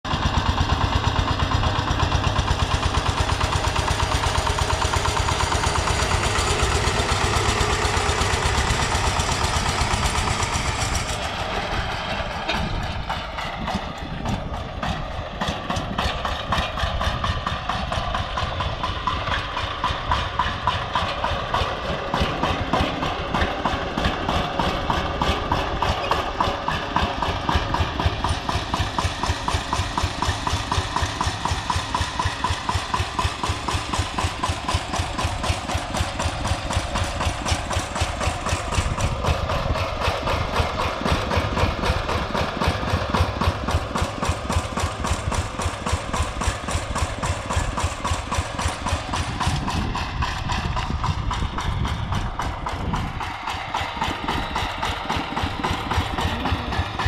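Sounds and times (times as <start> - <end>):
power tiller engine running: 0.0 - 57.0.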